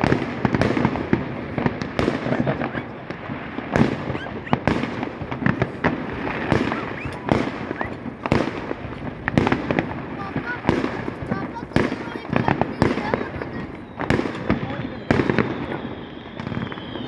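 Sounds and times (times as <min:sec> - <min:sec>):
fireworks crackling and banging: 0:00.0 - 0:17.0
loud firework bangs: 0:00.0 - 0:17.0
rising firework whistles: 0:00.0 - 0:17.0.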